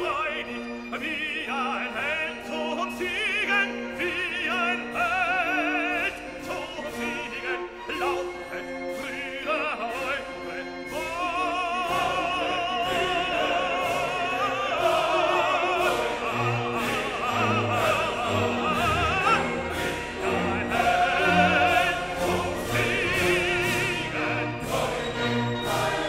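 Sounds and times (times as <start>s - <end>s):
operatic singing voice: 0.0s - 26.0s
orchestral music with steady beat: 0.0s - 26.0s.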